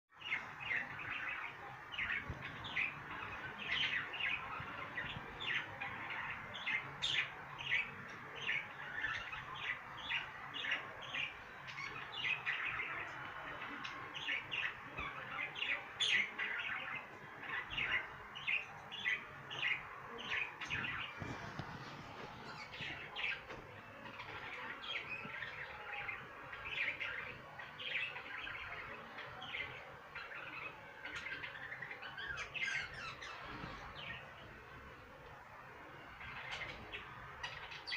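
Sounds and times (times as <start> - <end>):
budgerigars chirping and chattering: 0.2 - 34.8, 36.0 - 37.9.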